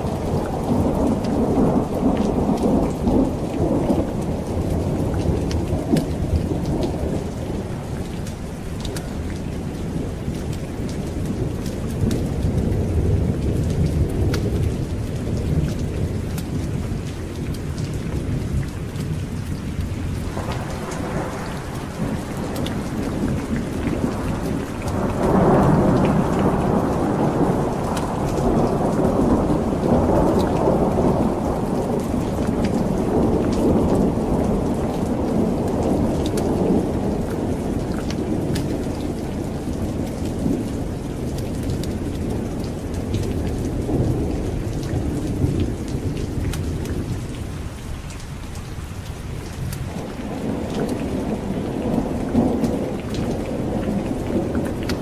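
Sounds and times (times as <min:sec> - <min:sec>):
rolling thunder: 0:00.0 - 0:47.8, 0:49.2 - 0:55.0
steady rain: 0:00.0 - 0:55.0.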